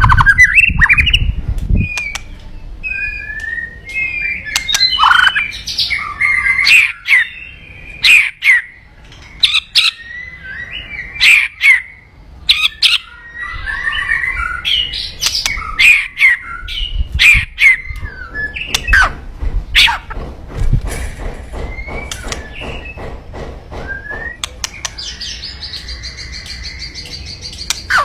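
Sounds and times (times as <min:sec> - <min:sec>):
songbird singing: 0:00.0 - 0:20.1, 0:21.5 - 0:28.0.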